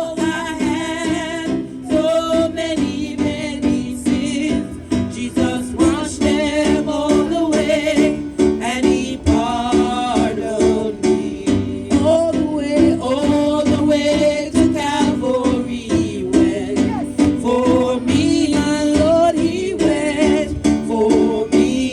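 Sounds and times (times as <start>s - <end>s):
gospel singing with instruments: 0.0s - 21.9s.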